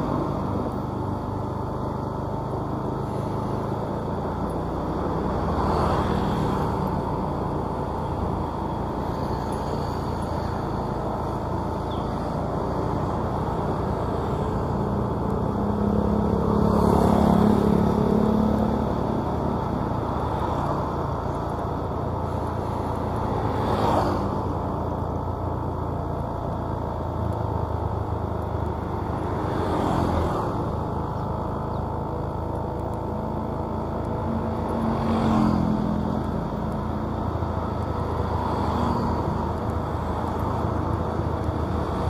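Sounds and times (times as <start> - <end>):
vehicle engine and road rumble: 0.0 - 42.0
vehicles passing: 0.0 - 42.0.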